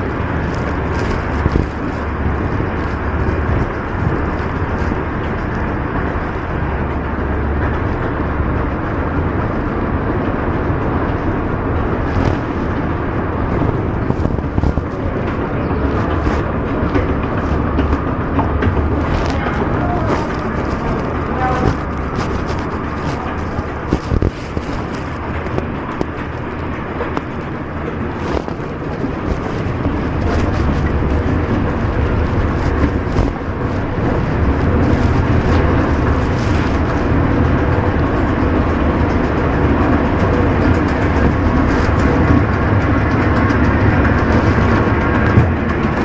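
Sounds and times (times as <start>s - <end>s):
escalator mechanical rumble: 0.0s - 46.0s.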